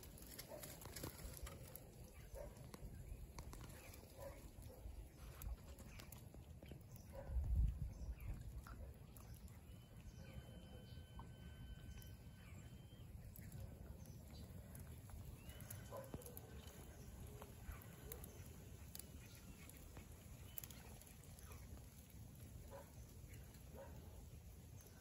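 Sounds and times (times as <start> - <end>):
faint bird chirps: 0.3 - 25.0.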